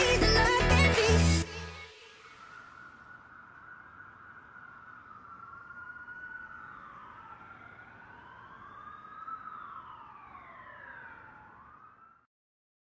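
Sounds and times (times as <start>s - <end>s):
sirens wailing: 1.4s - 12.3s.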